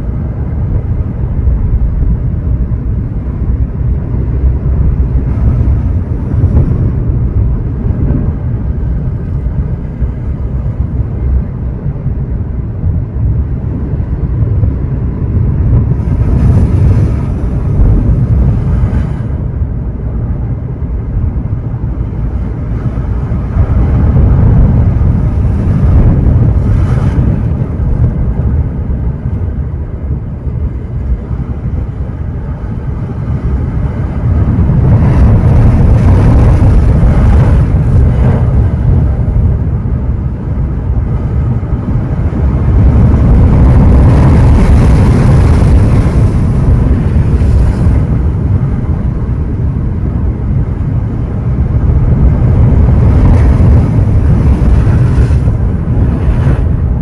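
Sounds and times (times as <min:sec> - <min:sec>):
ocean surf breaking on shore: 0:00.0 - 0:57.0.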